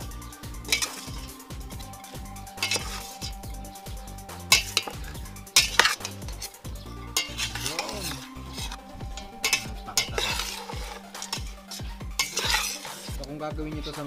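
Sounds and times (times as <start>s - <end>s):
wet rustling mixing: 0.0s - 14.0s
metal spoon clanking on pot: 0.7s - 3.4s, 4.5s - 13.2s.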